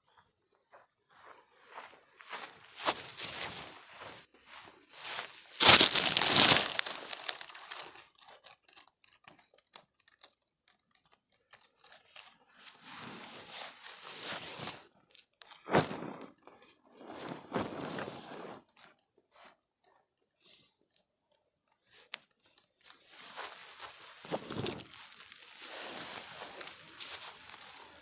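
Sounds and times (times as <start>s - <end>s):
rustling and crunching: 2.3s - 4.3s, 4.9s - 19.6s, 21.9s - 28.0s.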